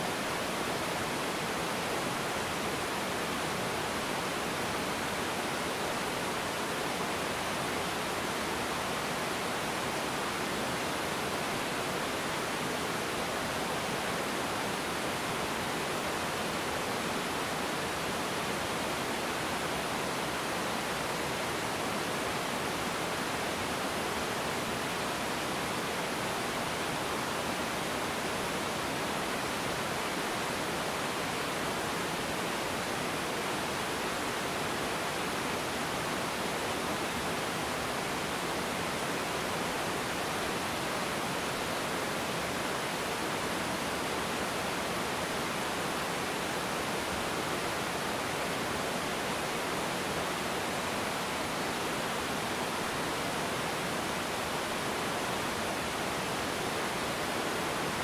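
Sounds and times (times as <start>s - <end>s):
waterfall pouring over rocks: 0.0s - 58.0s.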